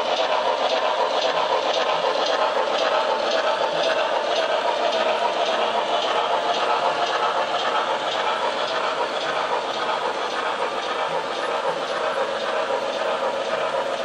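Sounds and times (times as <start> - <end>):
model train whirr: 0.0 - 14.0
small wheels clattering on rail: 0.0 - 14.0.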